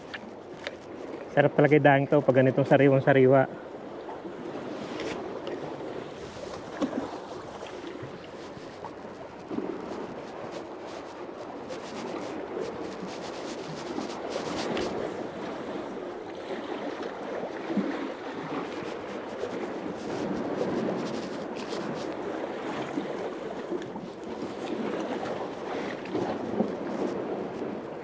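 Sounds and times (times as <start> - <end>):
sea water lapping against pier: 0.0 - 28.0.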